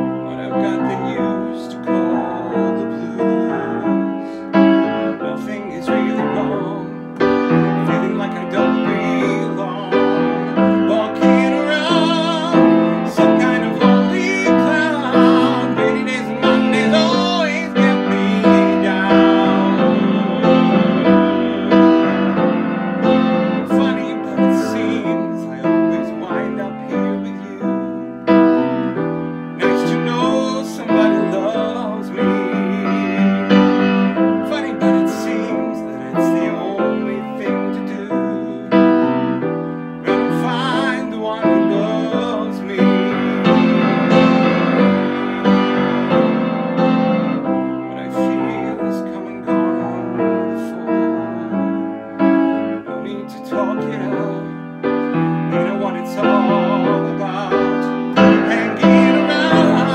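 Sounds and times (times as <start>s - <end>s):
man singing with vibrato: 0.0s - 59.9s
piano ballad chords: 0.0s - 59.9s.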